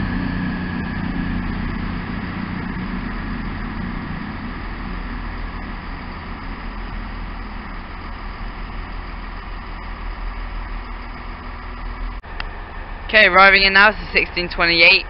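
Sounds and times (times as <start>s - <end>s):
diesel train engines running: 0.0s - 15.0s.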